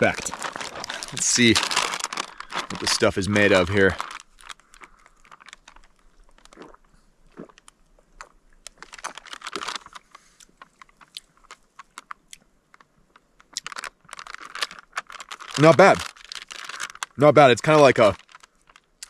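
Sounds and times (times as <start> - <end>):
plastic crinkling: 0.0 - 19.0.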